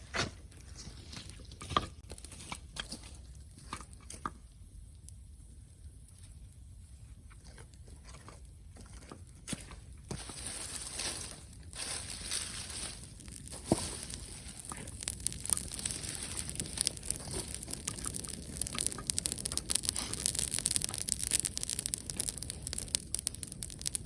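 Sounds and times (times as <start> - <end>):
bonfire crackling: 0.1 - 24.0
sharp snaps and pops: 0.1 - 24.0.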